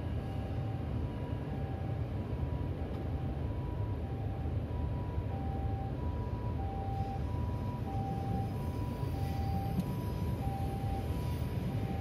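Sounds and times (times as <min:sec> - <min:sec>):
railroad crossing alarm: 0:00.0 - 0:12.0.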